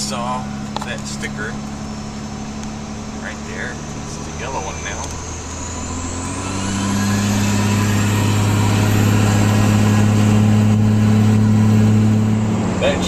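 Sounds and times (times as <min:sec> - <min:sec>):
high whine: 0:00.0 - 0:13.0
truck engine accelerating: 0:00.0 - 0:13.0.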